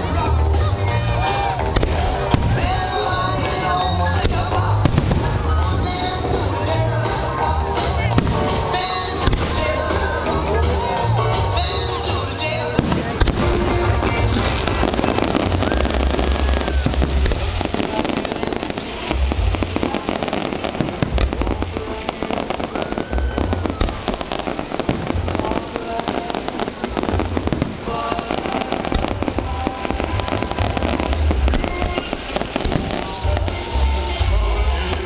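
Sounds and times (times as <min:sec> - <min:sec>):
fireworks crackling and popping: 0:00.0 - 0:35.0
fireworks shells booming: 0:01.7 - 0:06.7, 0:11.8 - 0:35.0.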